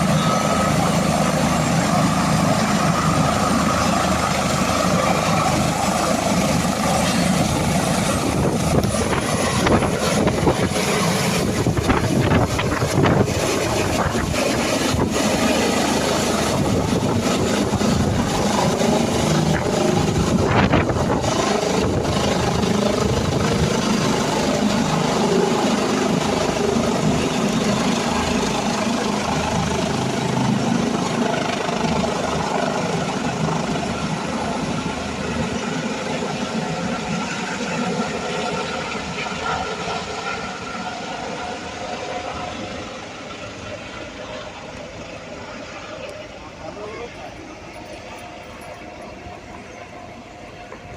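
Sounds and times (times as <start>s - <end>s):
helicopter rotor and engine: 0.0s - 50.9s
high turbine whine: 0.0s - 50.9s.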